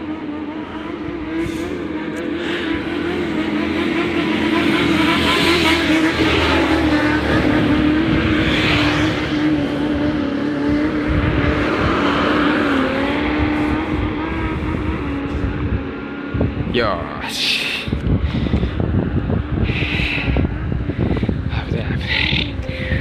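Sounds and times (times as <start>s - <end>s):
car engine running: 0.0s - 23.0s
road and tyre noise: 0.0s - 23.0s.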